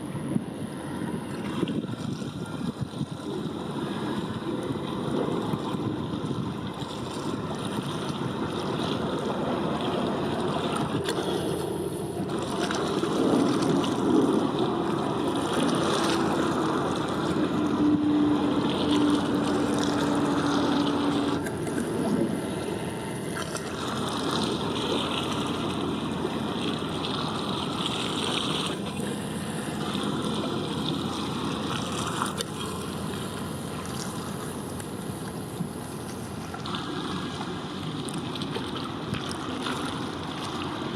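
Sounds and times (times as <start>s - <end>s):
wind rushing over microphone: 0.0s - 38.0s
boat engines running: 0.0s - 40.9s
steady hum: 0.0s - 40.9s.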